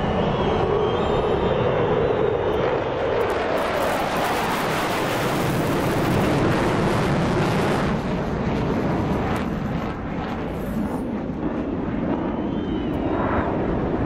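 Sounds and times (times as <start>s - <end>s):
jet flying past overhead: 0.0s - 14.0s.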